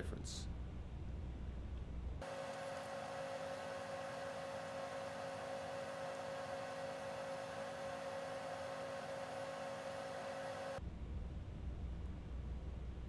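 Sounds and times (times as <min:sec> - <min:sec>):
mid-pitched electrical hum tones: 0:00.0 - 0:13.0.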